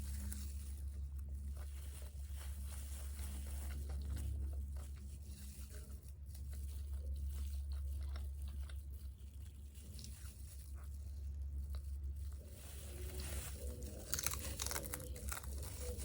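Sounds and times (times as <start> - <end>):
chewing crispy fried food: 0.0 - 16.0
low hum: 0.0 - 16.0.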